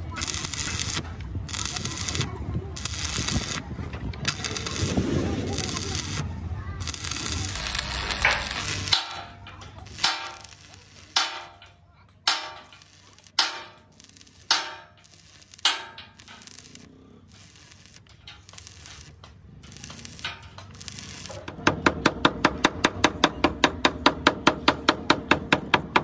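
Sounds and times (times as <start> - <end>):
welding arc crackling: 0.0 - 21.6.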